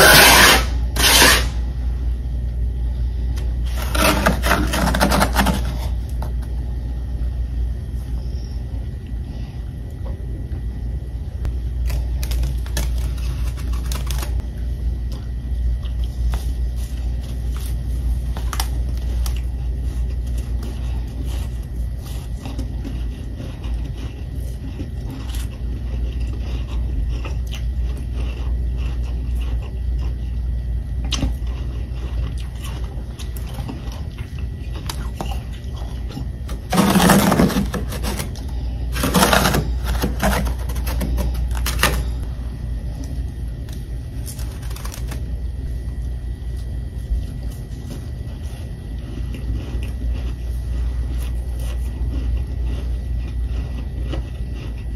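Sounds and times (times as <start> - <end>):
frost scraping and crunching: 0.0 - 1.7, 3.0 - 6.6, 11.4 - 14.6, 15.8 - 54.9
low hum: 0.0 - 54.9.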